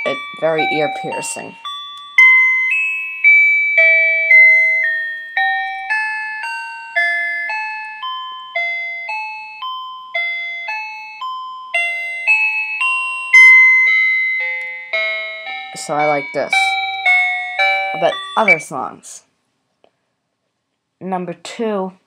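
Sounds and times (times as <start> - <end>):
electronic music box chime tune: 0.0 - 18.9.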